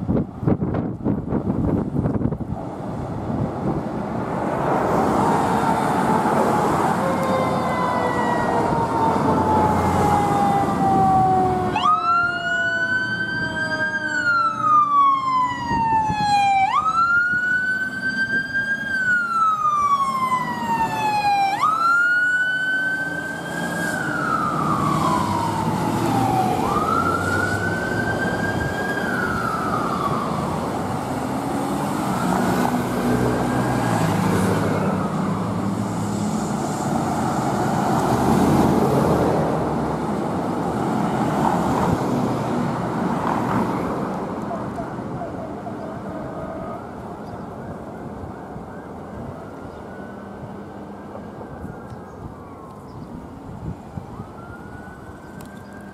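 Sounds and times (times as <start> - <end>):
road and traffic noise: 0.0 - 55.9
fire truck siren wailing: 4.8 - 42.1, 42.9 - 55.9.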